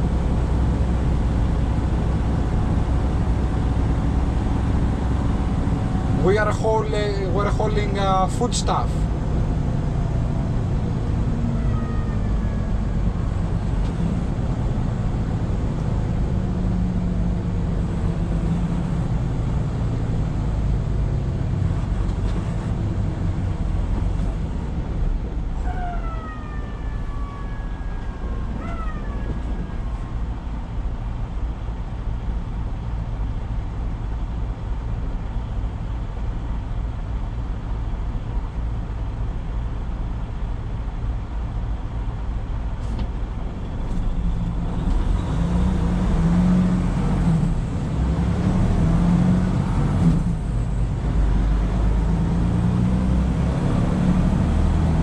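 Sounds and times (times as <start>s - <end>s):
diesel truck engine running: 0.0s - 55.0s
road noise: 0.0s - 55.0s.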